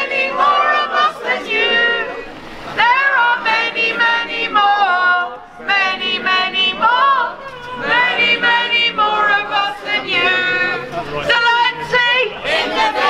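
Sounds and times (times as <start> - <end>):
voices singing unaccompanied: 0.0 - 13.0.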